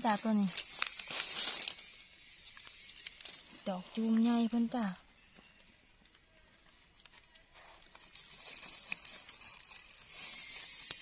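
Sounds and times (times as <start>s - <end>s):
dry leaves rustling: 0.0s - 5.0s, 7.0s - 11.0s.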